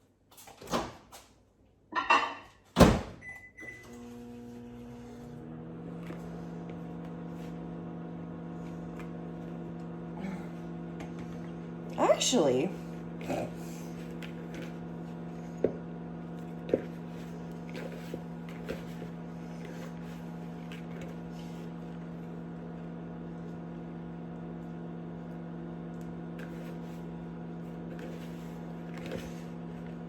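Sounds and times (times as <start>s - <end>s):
appliance electrical hum: 0.0s - 30.0s.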